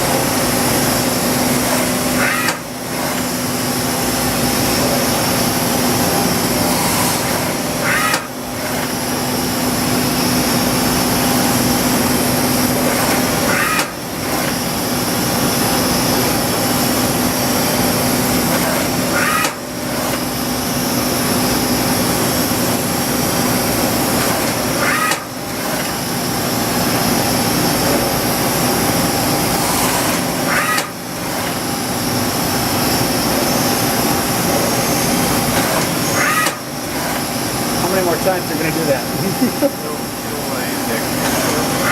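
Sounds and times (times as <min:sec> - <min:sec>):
machining center running: 0:00.0 - 0:41.9.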